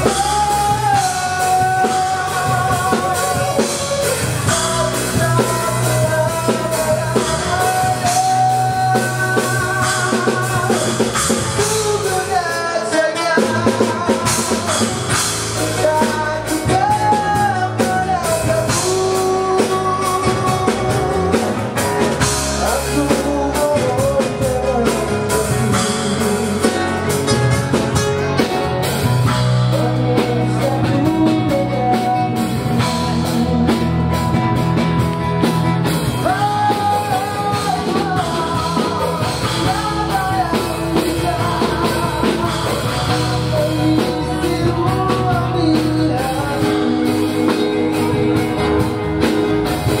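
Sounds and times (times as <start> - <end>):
acoustic guitars: 0.0 - 50.0
drum kit: 0.0 - 50.0
electric bass guitar: 0.0 - 50.0
person singing: 0.0 - 50.0.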